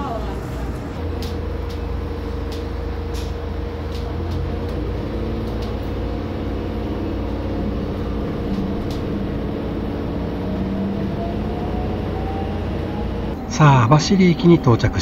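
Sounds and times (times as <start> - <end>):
railcar engine drone: 0.0 - 15.0.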